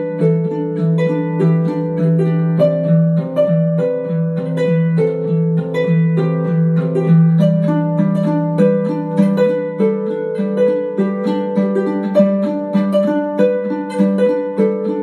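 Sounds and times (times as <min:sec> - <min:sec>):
plucked string instrumental music: 0:00.0 - 0:15.0.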